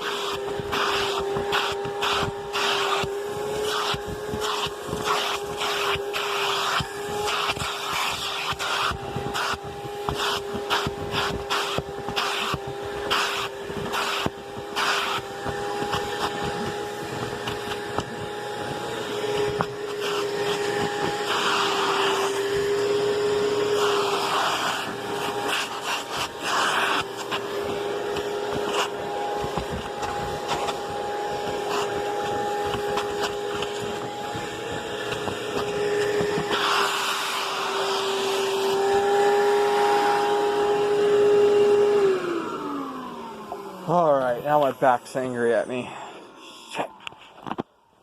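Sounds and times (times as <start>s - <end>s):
attachment rubbing on bedding: 0.0s - 38.6s
vacuum cleaner motor whine: 0.0s - 47.9s.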